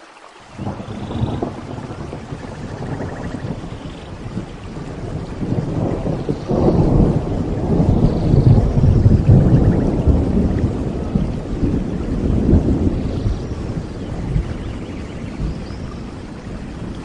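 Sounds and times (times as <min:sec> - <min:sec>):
rain: 0:00.0 - 0:17.0
rolling thunder: 0:00.5 - 0:17.0.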